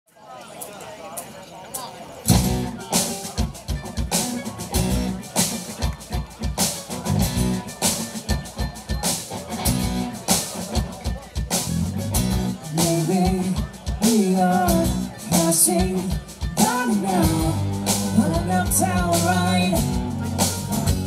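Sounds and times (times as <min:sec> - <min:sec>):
mandolin: 0:00.2 - 0:21.0
drum kit steady beat: 0:01.7 - 0:21.0
strummed acoustic guitars: 0:01.7 - 0:21.0.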